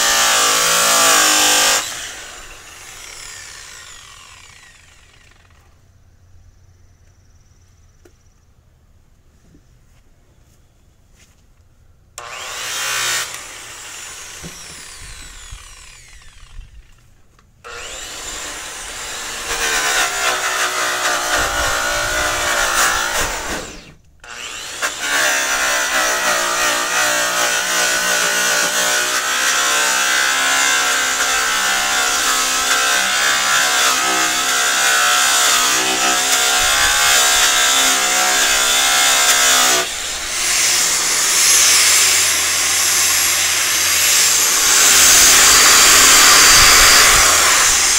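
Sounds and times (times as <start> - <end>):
angle grinder polishing metal: 0.0 - 5.5, 12.2 - 17.0, 17.7 - 47.9.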